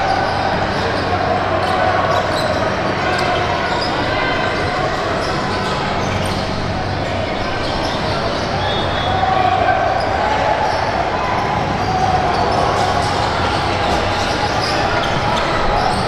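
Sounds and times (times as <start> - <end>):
echoing din of crowd: 0.0 - 16.0.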